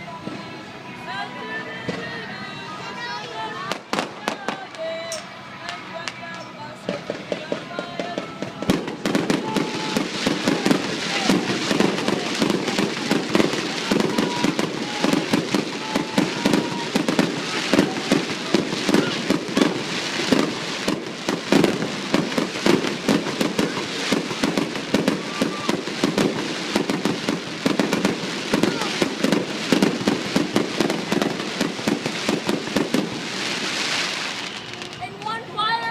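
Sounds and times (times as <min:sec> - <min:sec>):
fireworks bangs and crackles: 0:01.8 - 0:02.6, 0:03.6 - 0:35.9.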